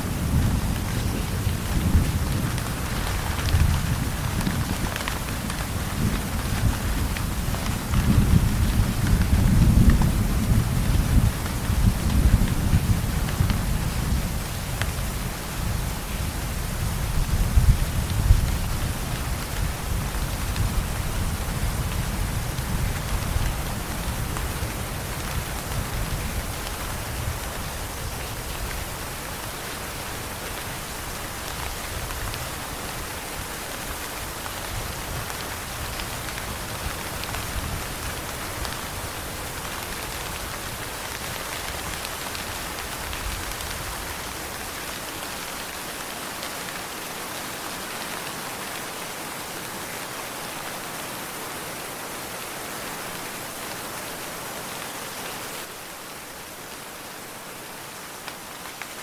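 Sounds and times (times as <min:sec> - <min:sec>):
heavy rain hissing: 0:00.0 - 0:59.0.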